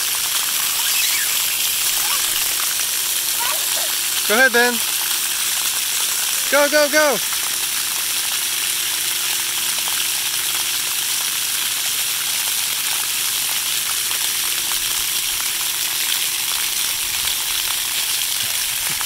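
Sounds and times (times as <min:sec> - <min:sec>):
water jets spraying onto concrete: 0:00.0 - 0:19.0.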